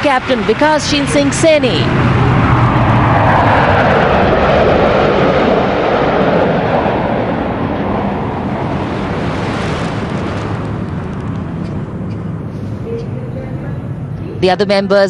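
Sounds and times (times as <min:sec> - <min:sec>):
fighter jets roaring past: 0:00.0 - 0:15.0.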